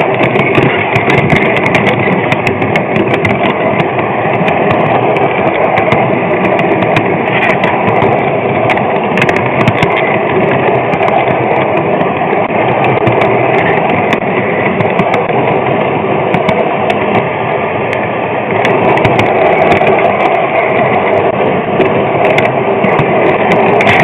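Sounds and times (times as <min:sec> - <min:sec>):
model train rolling rumble: 0:00.0 - 0:24.0
wheels clicking on rails: 0:00.0 - 0:24.0.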